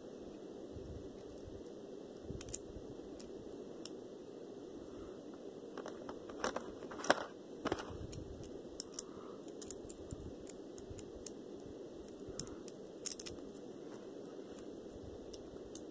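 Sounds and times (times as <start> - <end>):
low background hiss: 0.0 - 15.9.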